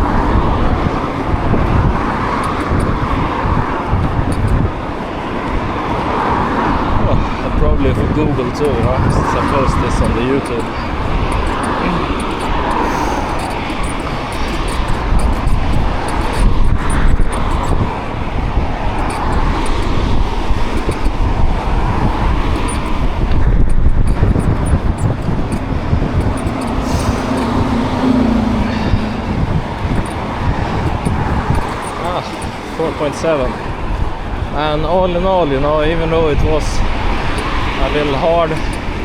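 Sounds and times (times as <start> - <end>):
low hum of passing vehicle: 0.0 - 39.0
road and traffic noise: 0.0 - 39.0
wind buffeting microphone: 0.0 - 39.0.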